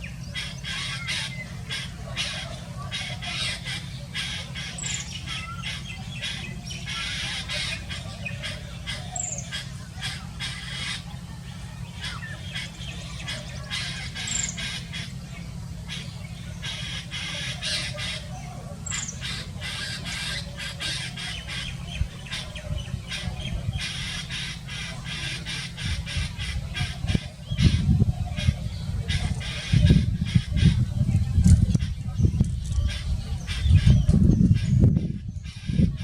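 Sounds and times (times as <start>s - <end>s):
bird squawking: 0.0s - 36.0s.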